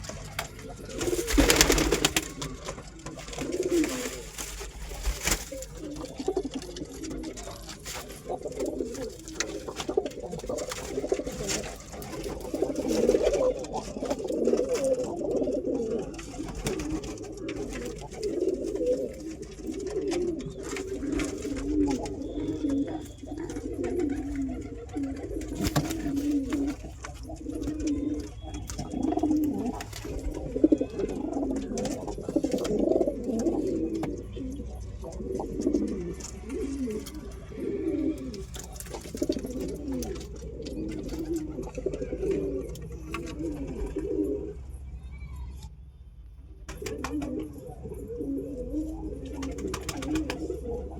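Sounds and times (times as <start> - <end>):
pigeons cooing: 0.0 - 45.6, 46.4 - 50.9.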